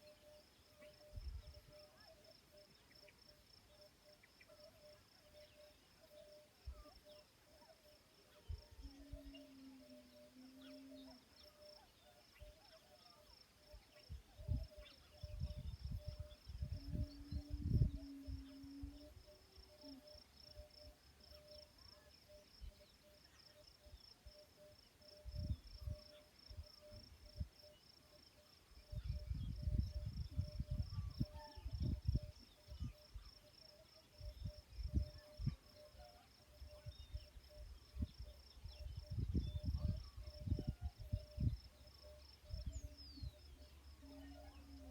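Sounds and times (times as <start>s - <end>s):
crickets chirping: 0.0s - 44.9s
low pulsing insect call: 0.0s - 44.9s.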